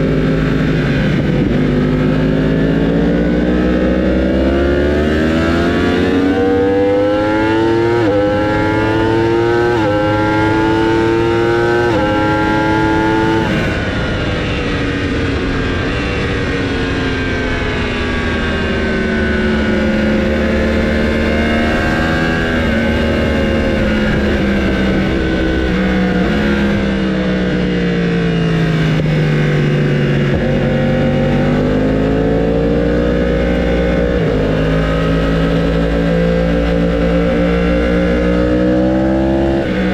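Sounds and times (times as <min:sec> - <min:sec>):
racing motorcycle engines: 0:00.0 - 0:39.9.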